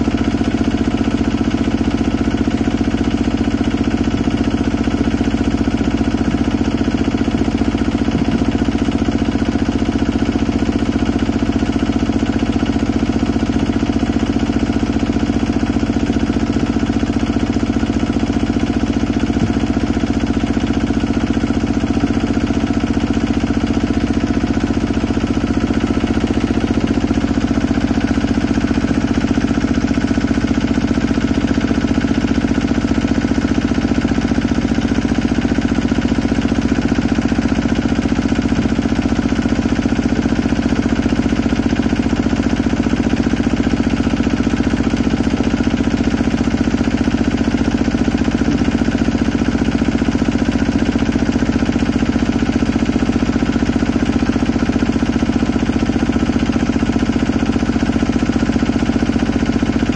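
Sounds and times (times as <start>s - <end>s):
small engine running steadily: 0.0s - 59.9s.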